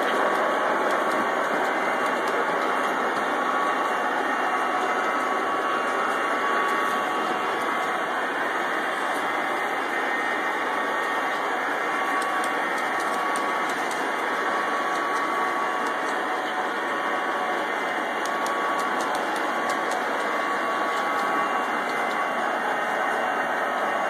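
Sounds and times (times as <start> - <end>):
model trains whirring on track: 0.0 - 24.0.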